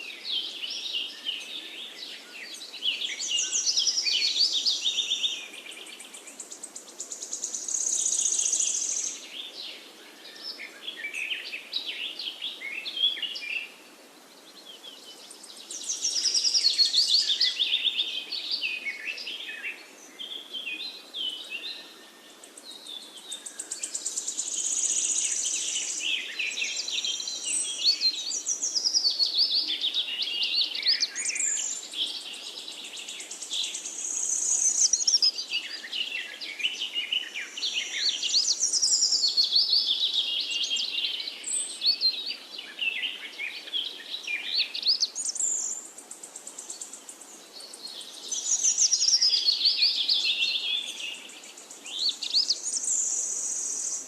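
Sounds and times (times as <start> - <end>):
faint outdoor hiss: 0.0 - 54.0
songbirds chirping and trilling: 0.0 - 54.0.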